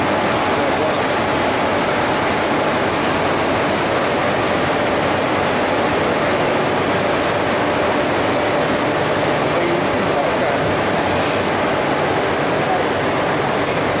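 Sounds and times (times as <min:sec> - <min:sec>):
train running with rushing hum: 0:00.0 - 0:14.0.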